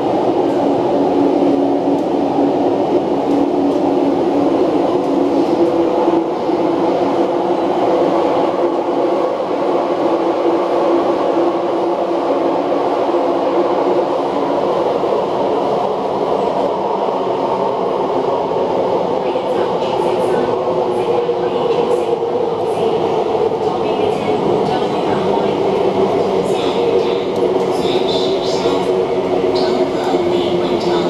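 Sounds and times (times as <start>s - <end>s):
on-board station announcement: 0.0s - 31.0s
train wheels rumbling on rail: 0.0s - 31.0s.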